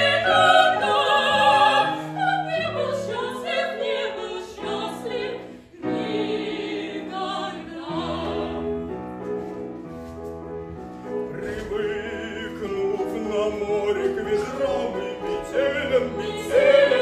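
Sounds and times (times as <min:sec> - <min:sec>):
voices singing operatically: 0:00.0 - 0:08.8, 0:11.4 - 0:17.0.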